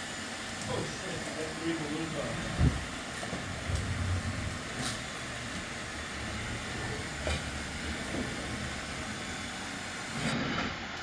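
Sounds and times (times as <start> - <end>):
robot vacuum whirring: 1.7 - 11.0.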